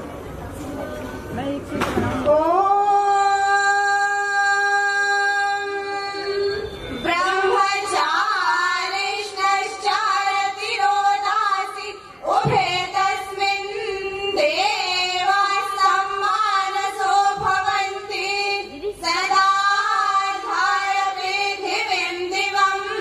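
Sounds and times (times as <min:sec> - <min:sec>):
women singing together: 0:02.3 - 0:23.0.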